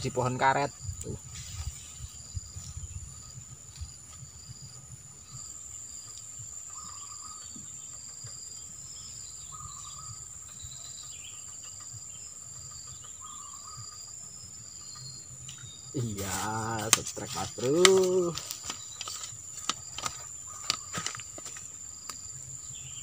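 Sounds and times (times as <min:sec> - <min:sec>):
insects trilling: 0:00.0 - 0:23.0
low insect call: 0:00.0 - 0:23.0.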